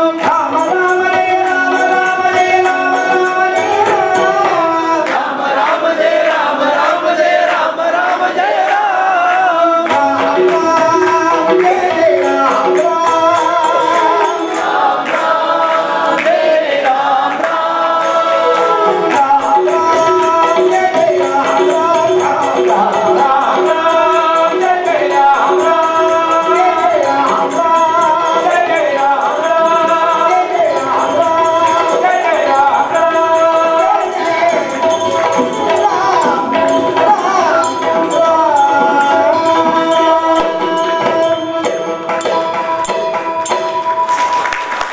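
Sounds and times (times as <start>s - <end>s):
hand drum: 0.0s - 5.4s, 8.7s - 44.9s
harmonium held notes: 0.0s - 7.4s, 9.7s - 44.8s
men singing: 0.0s - 43.8s
small hand percussion: 0.0s - 44.9s.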